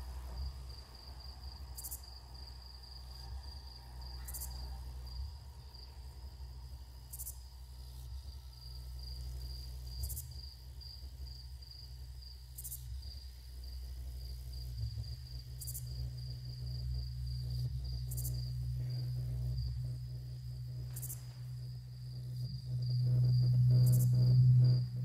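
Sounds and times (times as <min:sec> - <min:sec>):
crickets trilling: 0:00.0 - 0:25.0
low even hum: 0:00.0 - 0:25.0.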